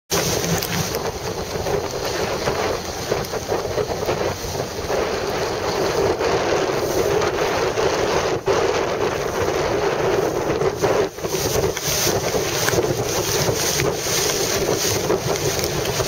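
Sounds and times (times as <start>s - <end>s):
choppy water: 0.1s - 16.0s
wind buffeting microphone: 0.1s - 16.0s.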